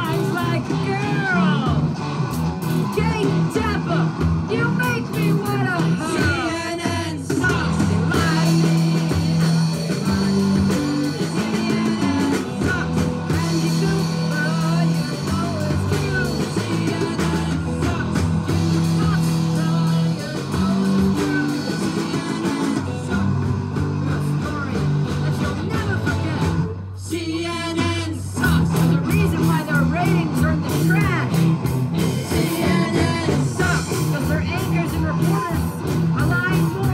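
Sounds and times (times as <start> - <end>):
live rock band playing: 0.0 - 36.9
people singing: 2.8 - 36.9.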